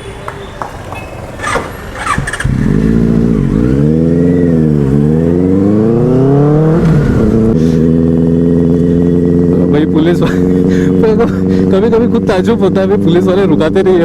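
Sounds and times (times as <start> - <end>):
motorcycle engine accelerating: 1.4 - 14.0.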